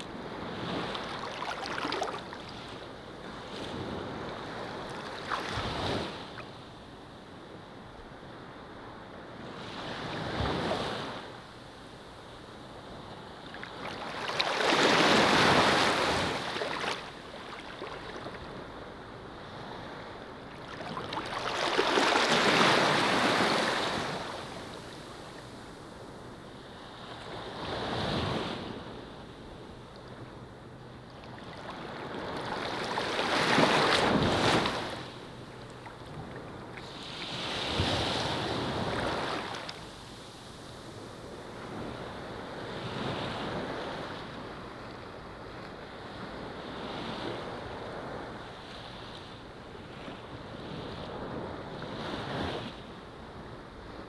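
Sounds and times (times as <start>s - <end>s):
waves washing on sandy beach: 0.0s - 6.6s, 12.5s - 30.2s, 31.2s - 54.0s.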